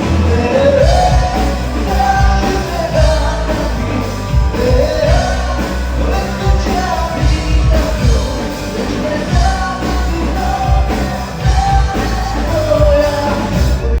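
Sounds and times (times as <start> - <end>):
thumping bass beat: 0.0 - 14.0
vocal melody: 0.0 - 14.0.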